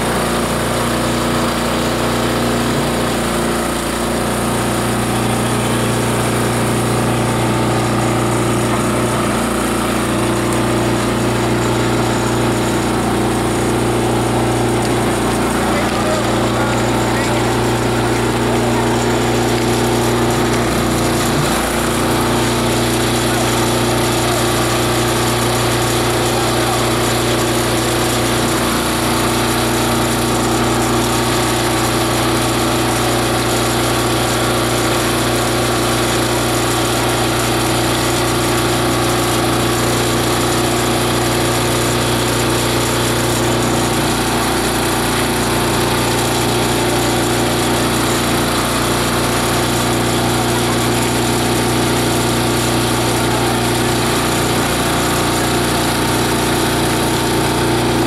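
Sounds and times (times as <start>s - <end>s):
shredder grinding: 0.0s - 58.0s.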